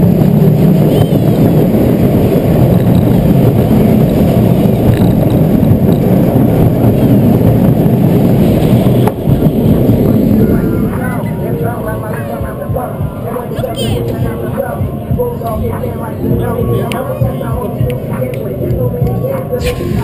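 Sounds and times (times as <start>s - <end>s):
roller coaster wheels rumbling: 0.0s - 20.0s.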